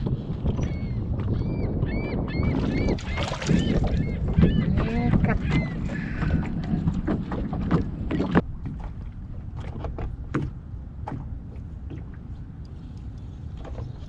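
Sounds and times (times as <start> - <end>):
boat rumble: 0.0 - 14.0.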